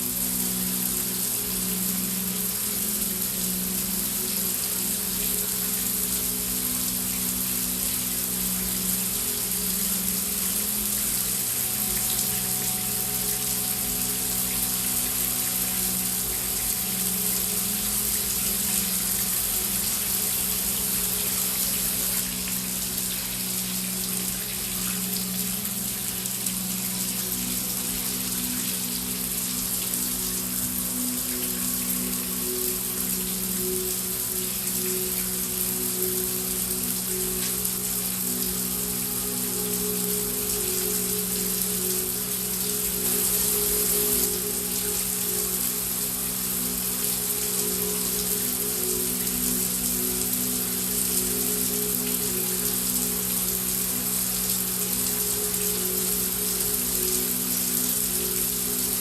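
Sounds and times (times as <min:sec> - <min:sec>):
heavy rain hissing: 0:00.0 - 0:59.0
low ambient pad drone: 0:00.0 - 0:59.0.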